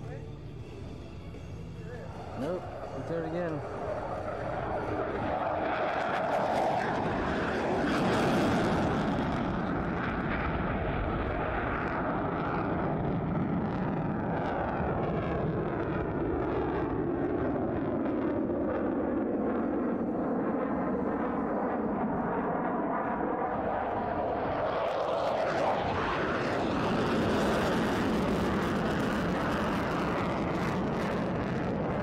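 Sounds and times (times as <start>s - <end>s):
fighter jet roar: 1.8s - 32.0s.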